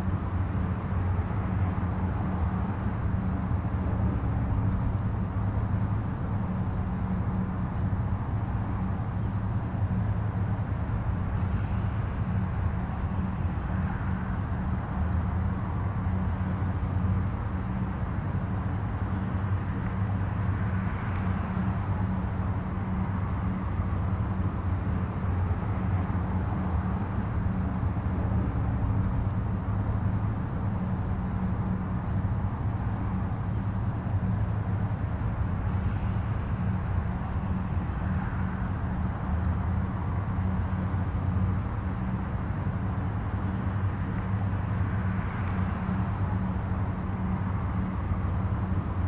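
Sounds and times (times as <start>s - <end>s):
distant highway traffic rumble: 0.0s - 49.0s.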